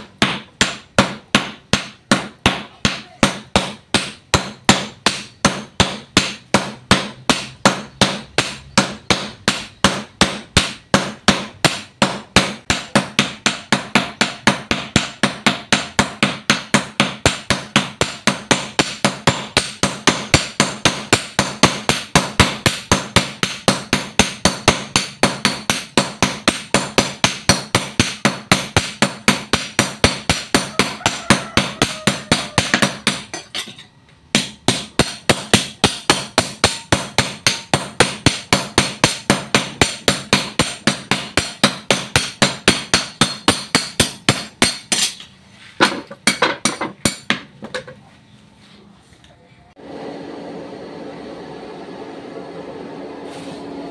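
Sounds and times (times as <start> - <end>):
hammers striking steel on anvil: 0.0 - 47.9.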